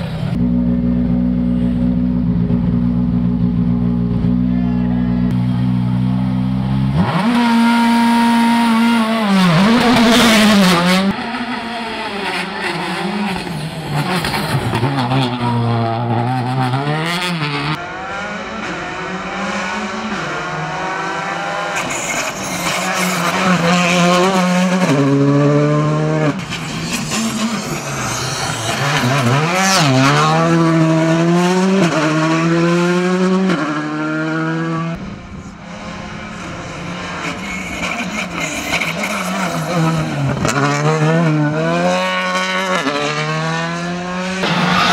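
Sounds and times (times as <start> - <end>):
rally car engine revving: 0.0 - 44.9.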